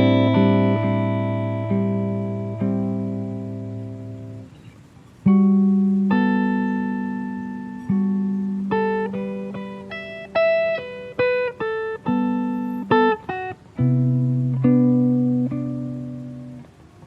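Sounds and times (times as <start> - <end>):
acoustic guitar played slowly: 0.0 - 17.0.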